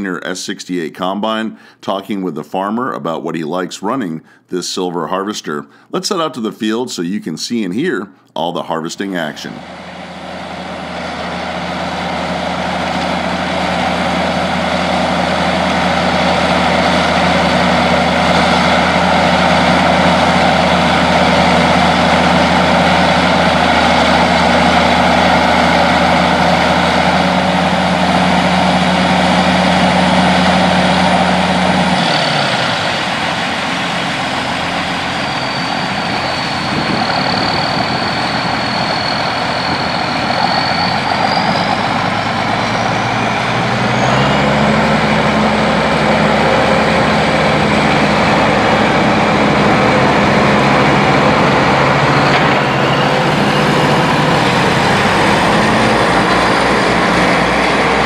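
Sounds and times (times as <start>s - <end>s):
tractor engines running: 9.4s - 58.0s.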